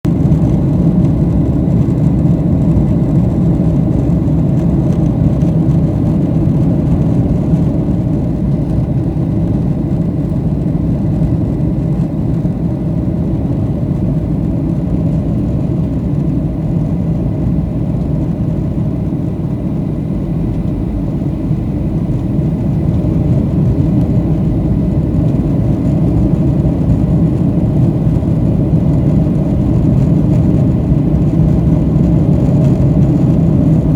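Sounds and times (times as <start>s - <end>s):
jet engine drone in cabin: 0.0s - 33.9s.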